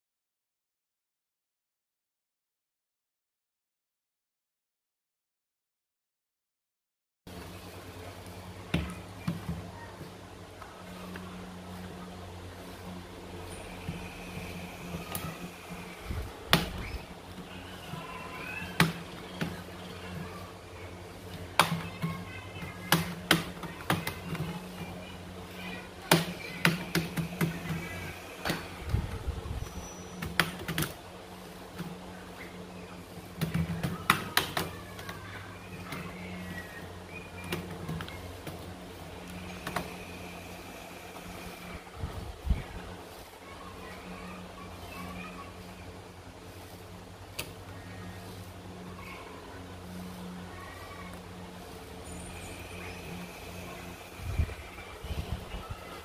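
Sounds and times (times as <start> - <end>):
faint steady hum: 7.3 - 56.0.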